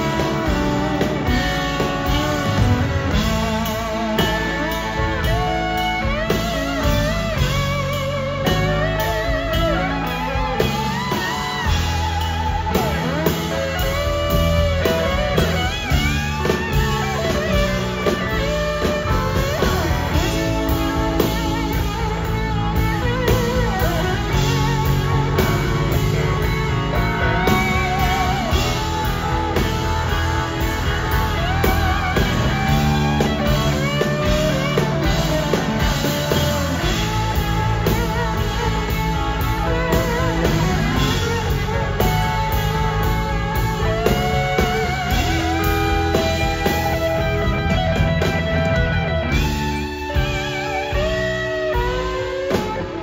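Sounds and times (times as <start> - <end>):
bass guitar: 0.0 - 53.0
lead electric guitar bending notes: 0.0 - 53.0
steady drum beat: 0.0 - 53.0.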